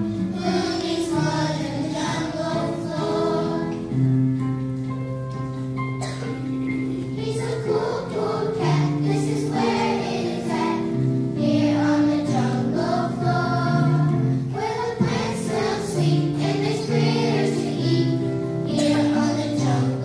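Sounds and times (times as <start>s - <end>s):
children's choir singing: 0.0s - 4.1s, 6.0s - 20.0s
backing music: 0.0s - 20.0s.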